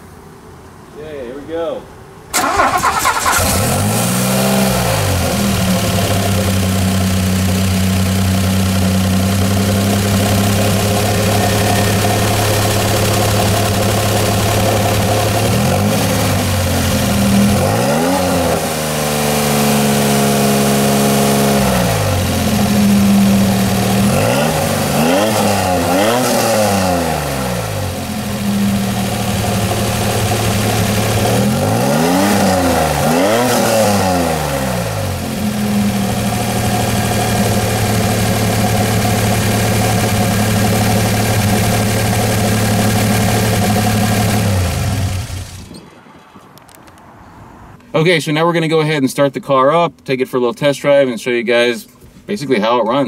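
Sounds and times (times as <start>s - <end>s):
car engine idling and revving: 2.3s - 47.8s.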